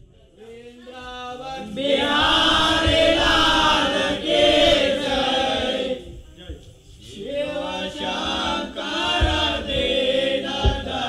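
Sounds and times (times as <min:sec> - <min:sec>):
men singing in unison: 0:00.4 - 0:06.0, 0:07.0 - 0:11.0.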